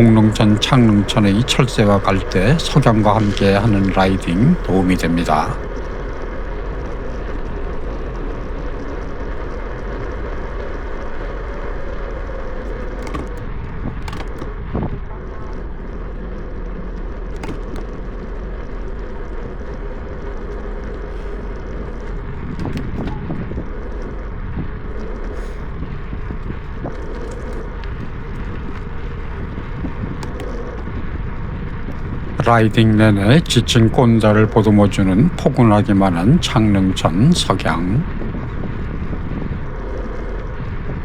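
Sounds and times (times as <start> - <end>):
wind rush: 0.0 - 14.0, 21.1 - 41.0
bicycle road noise: 0.0 - 41.0.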